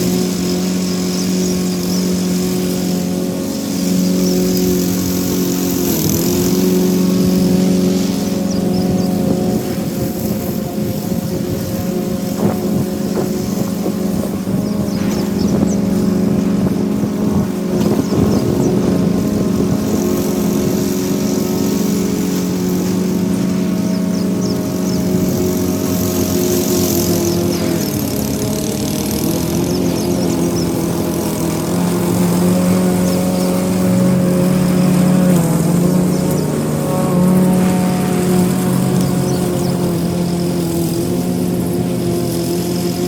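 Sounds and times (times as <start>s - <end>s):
lawn mower engine cutting grass: 0.0s - 43.0s.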